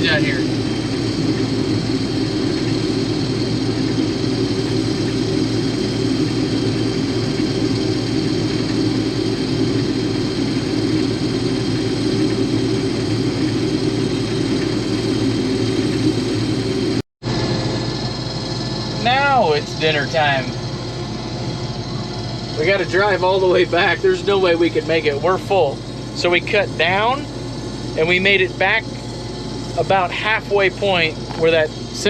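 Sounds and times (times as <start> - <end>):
combine harvester droning: 0.0 - 32.0.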